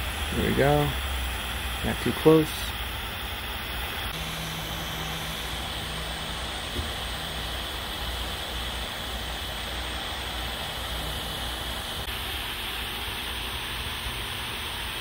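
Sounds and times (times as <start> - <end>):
hot-air tool hissing: 0.0 - 15.0.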